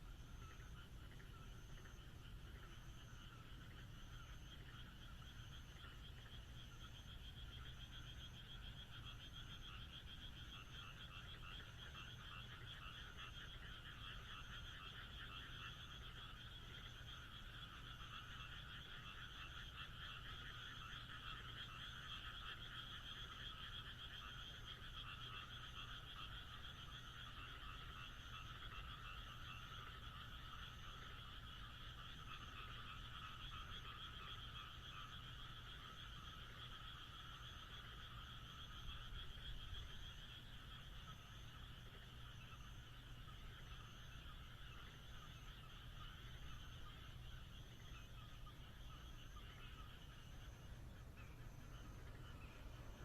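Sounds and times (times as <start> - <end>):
frogs calling: 0.0 - 53.0.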